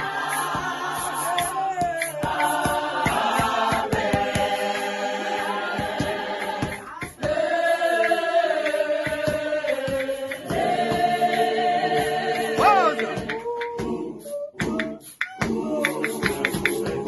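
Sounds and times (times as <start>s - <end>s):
vocal group singing a cappella: 0.0s - 17.0s.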